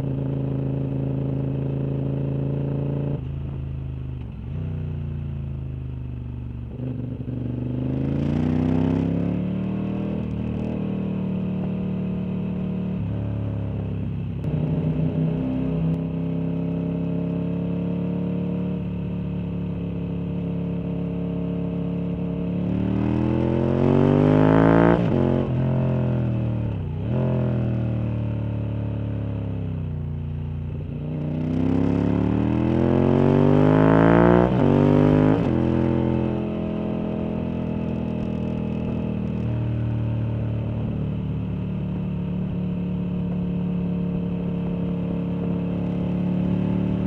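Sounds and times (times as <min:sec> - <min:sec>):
motorcycle engine revving: 0:06.4 - 0:47.0.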